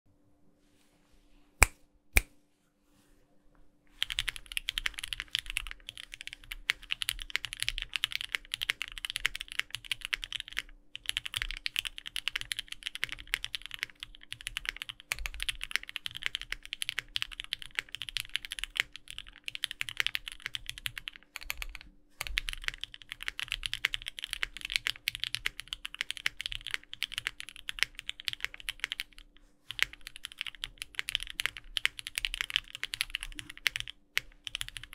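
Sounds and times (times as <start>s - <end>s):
mechanical keyboard typing: 4.0s - 34.9s.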